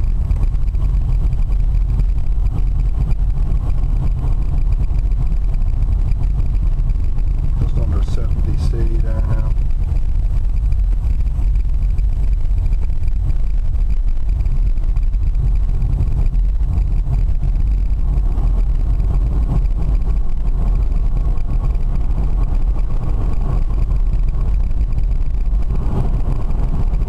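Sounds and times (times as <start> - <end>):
car interior road and wind rumble: 0.0 - 27.0.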